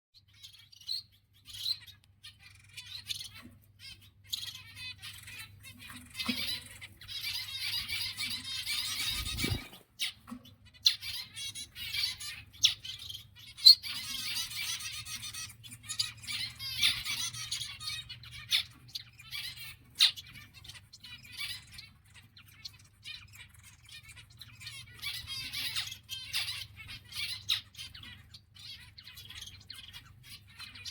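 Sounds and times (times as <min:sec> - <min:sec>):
finches calling and singing: 0:00.2 - 0:30.9.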